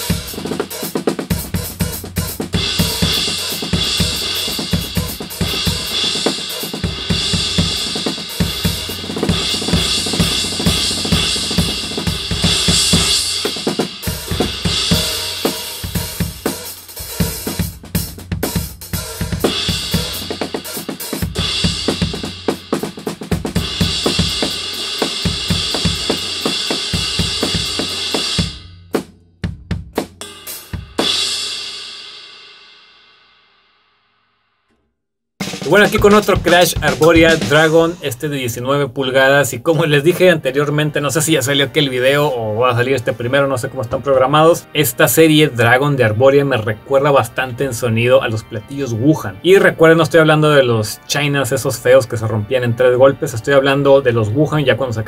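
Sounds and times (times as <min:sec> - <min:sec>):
drum kit groove: 0:00.0 - 0:32.6, 0:35.4 - 0:55.0.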